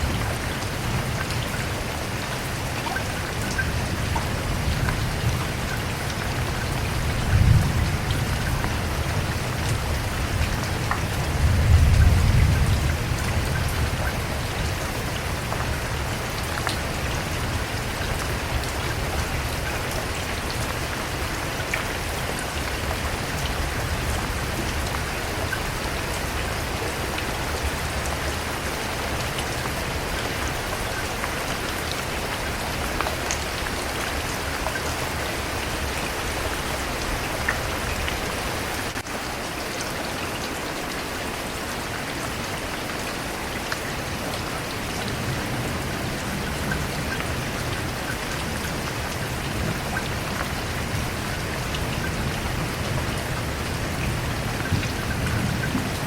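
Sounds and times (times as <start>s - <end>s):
raindrops ticking: 0.0s - 39.1s, 45.0s - 56.0s
rain falling on surfaces: 0.0s - 56.0s.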